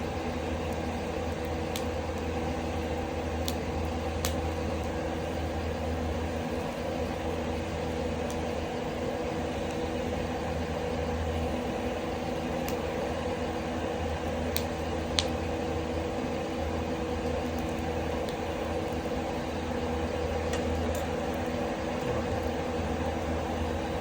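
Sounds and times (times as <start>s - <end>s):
exhaust fan humming: 0.0s - 24.0s.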